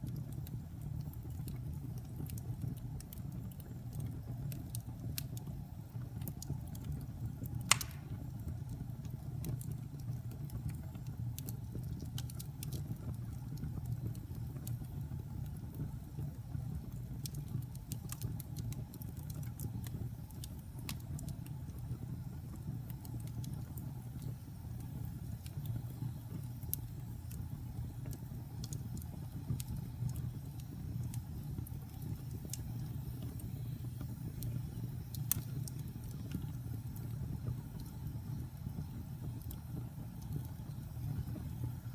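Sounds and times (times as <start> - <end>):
fire crackles and pops: 0.0 - 41.9.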